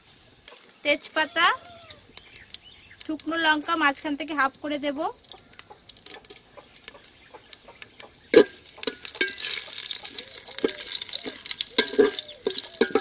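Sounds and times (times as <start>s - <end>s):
spices sizzling in hot oil: 0.0s - 13.0s
stirring in a pot: 0.4s - 13.0s.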